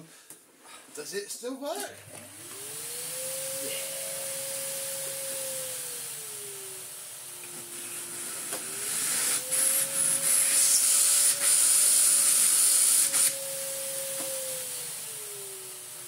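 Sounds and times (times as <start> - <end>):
vacuum cleaner motor whine: 1.9 - 16.0.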